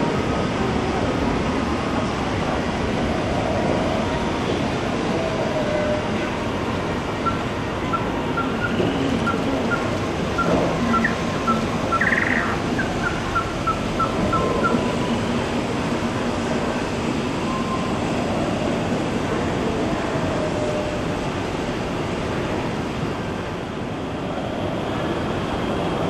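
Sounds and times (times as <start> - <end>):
model trains running: 0.0 - 26.0.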